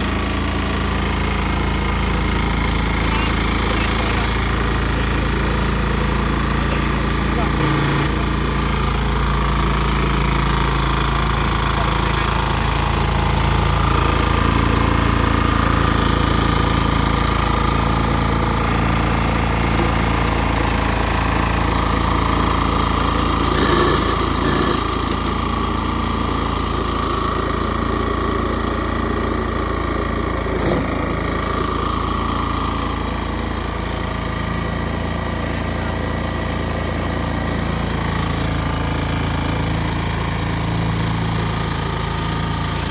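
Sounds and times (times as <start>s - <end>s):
lawn mower engine running: 0.0s - 42.9s.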